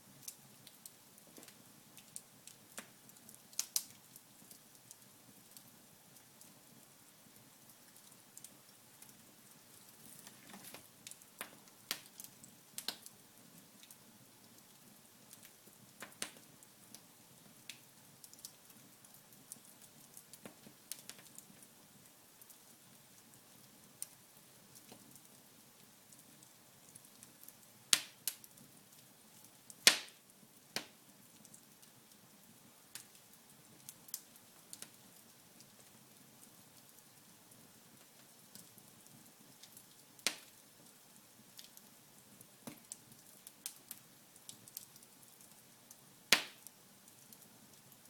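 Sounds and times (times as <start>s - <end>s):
faint steady hiss: 0.0s - 48.0s
wood fire crackling and popping: 0.1s - 48.0s.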